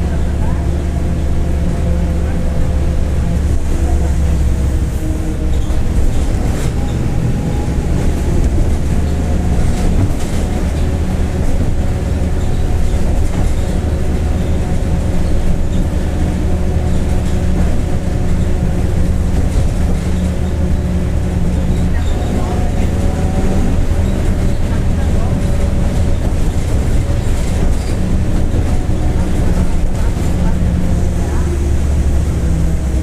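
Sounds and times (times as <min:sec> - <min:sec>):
bus diesel engine humming: 0:00.0 - 0:33.0.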